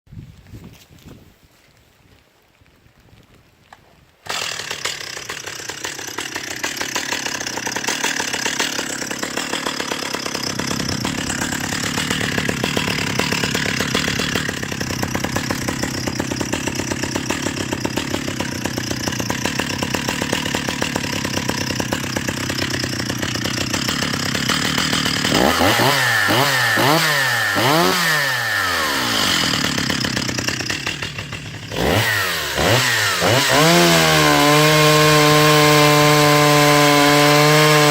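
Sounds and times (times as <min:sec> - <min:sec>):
chainsaw revving: 0:04.2 - 0:37.9.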